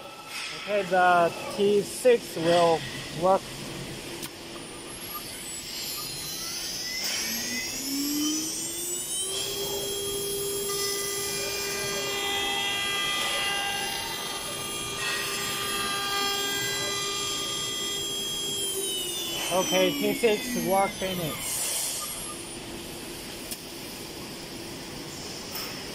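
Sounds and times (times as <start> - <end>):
router spindle whine: 4.5 - 25.9.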